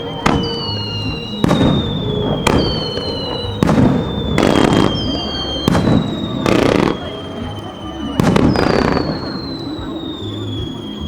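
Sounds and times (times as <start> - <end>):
falling firework whistle: 0.0 - 11.0
fireworks bangs: 0.0 - 11.0
fireworks crackling: 0.0 - 11.0.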